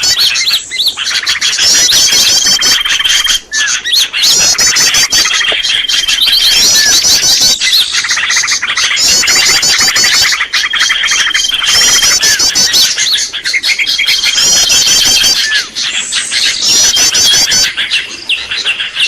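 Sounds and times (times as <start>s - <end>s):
rapid high bird chirping: 0.0s - 19.0s.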